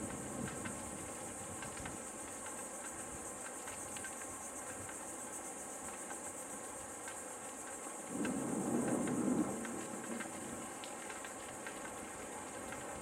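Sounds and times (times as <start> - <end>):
faint ticks: 0.0 - 13.0.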